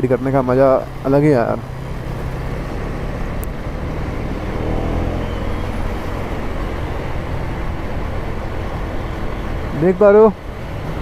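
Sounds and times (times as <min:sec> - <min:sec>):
traffic noise: 0:00.0 - 0:11.0
motorcycle engine running: 0:00.1 - 0:09.8.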